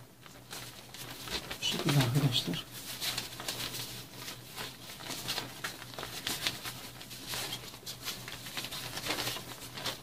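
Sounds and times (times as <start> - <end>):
plastic packaging crinkling: 0.1 - 10.0
cloth rustling: 0.2 - 10.0.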